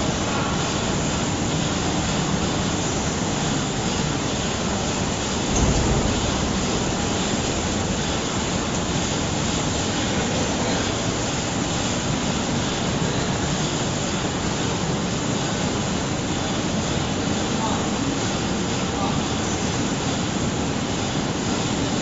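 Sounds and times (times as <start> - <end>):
packing line machine noise: 0.0 - 22.0.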